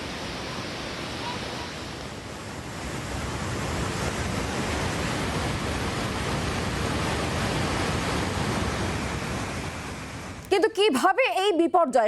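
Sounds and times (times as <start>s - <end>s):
river rushing in flood: 0.0s - 10.5s.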